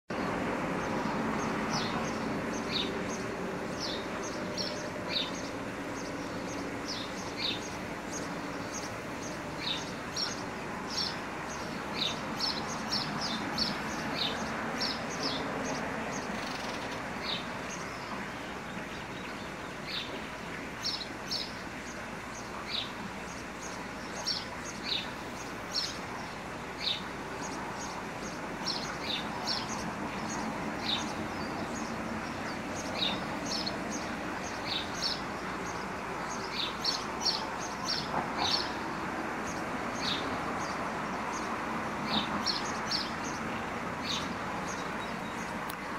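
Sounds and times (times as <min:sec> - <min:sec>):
small birds chirping: 0:00.1 - 0:45.9.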